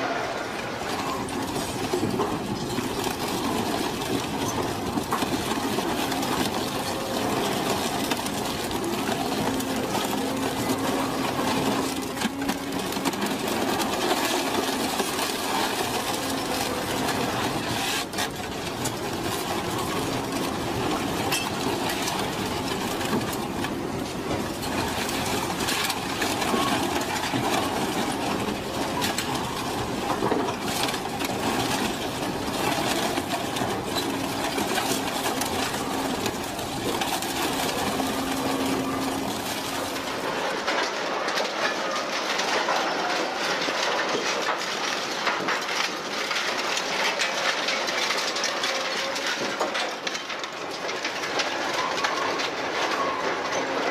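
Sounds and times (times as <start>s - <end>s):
shredder grinding scrap metal: 0.0s - 53.9s
sharp cracks of breaking metal: 0.1s - 53.9s.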